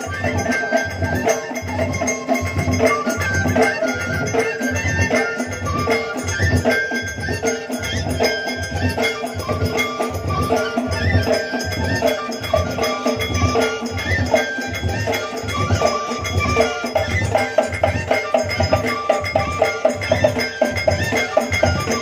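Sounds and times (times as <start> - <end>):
sharp percussion strikes: 0.0 - 22.0.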